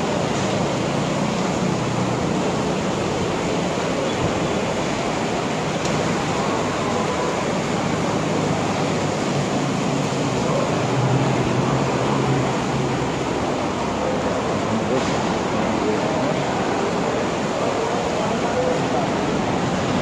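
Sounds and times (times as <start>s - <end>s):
heavy rain on wet road: 0.0s - 20.0s.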